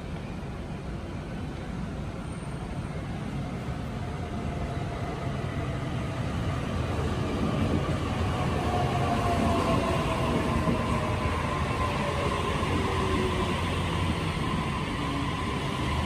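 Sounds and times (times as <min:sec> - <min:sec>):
electric train rumbling: 0:00.0 - 0:16.0
faint train whine: 0:00.0 - 0:16.0.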